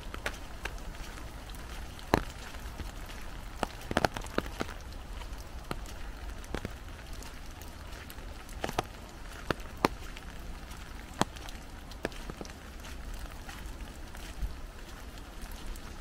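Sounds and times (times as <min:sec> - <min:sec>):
light rain patter: 0:00.0 - 0:16.0
raindrops tapping on umbrella: 0:00.0 - 0:16.0.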